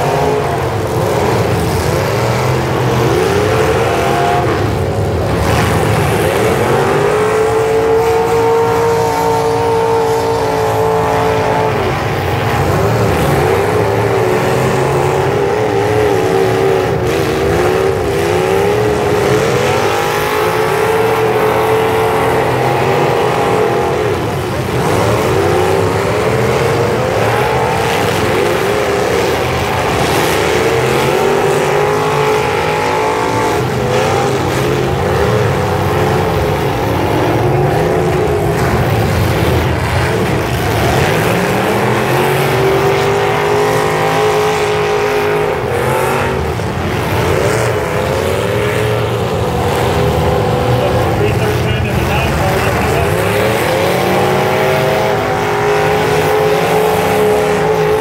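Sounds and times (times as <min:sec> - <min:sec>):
car engines revving together: 0:00.0 - 0:58.0.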